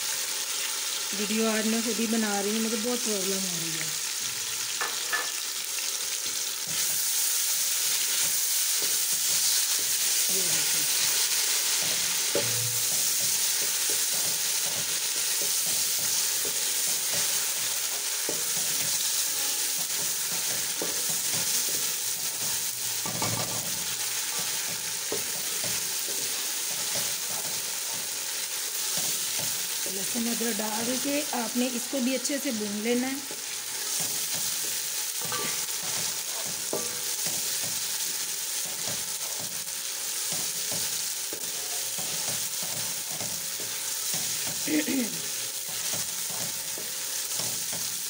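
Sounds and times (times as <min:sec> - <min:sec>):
onions sizzling in hot oil: 0:00.0 - 0:48.0.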